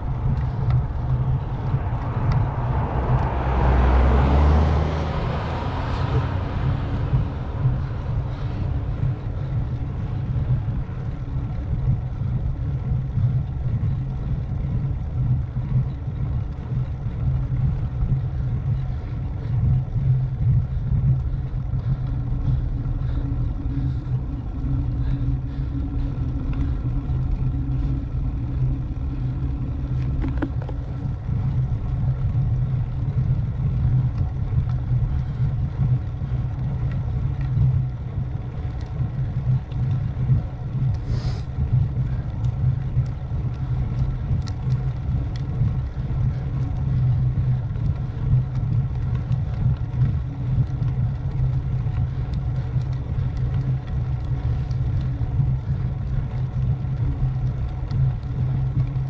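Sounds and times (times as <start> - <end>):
road rumble: 0.0 - 59.0
wind rush on microphone: 0.0 - 59.0.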